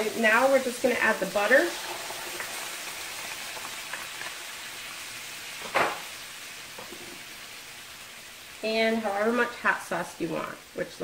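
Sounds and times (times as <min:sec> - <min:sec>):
butter sizzling in skillet: 0:00.0 - 0:11.0.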